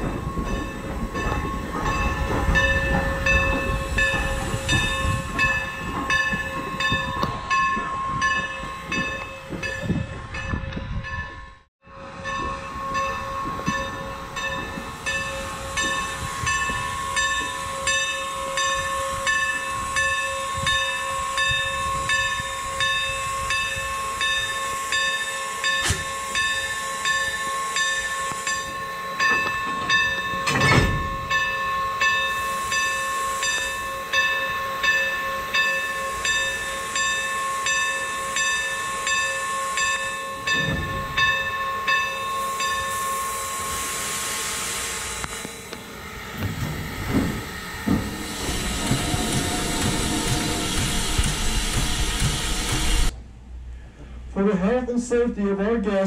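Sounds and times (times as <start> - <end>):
steam locomotive bell ringing: 0.0 - 53.2
locomotive engine rumble: 0.0 - 55.9.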